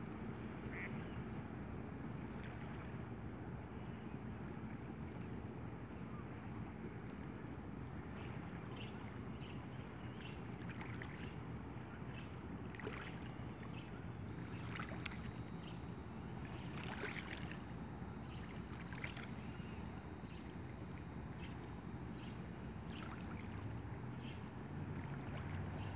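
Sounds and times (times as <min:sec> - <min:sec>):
small waves lapping: 0:00.1 - 0:25.9.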